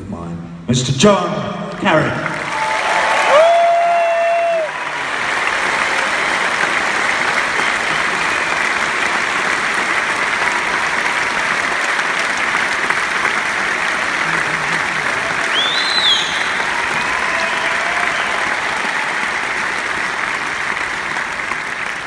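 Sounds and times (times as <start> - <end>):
crowd applauding and cheering: 1.7 - 22.0.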